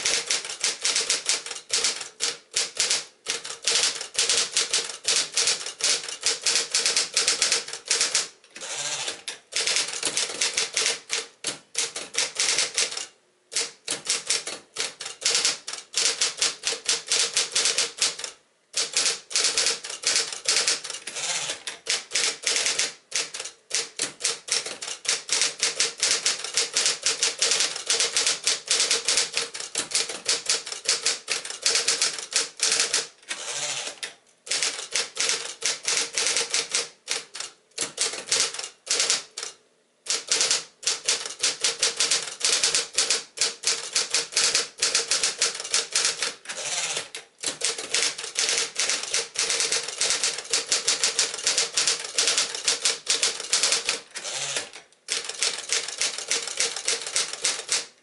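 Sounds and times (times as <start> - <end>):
typewriter key strikes: 0.0 - 8.3, 9.0 - 33.1, 34.5 - 57.9.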